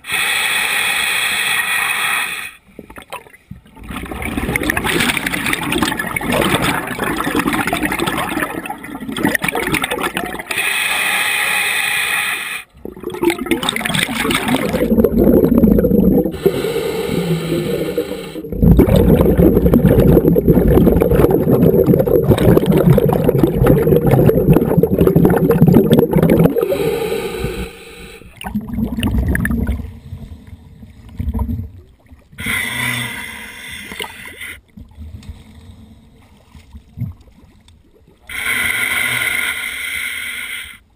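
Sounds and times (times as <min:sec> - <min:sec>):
underwater bubbling and gurgling: 0:00.0 - 0:40.9.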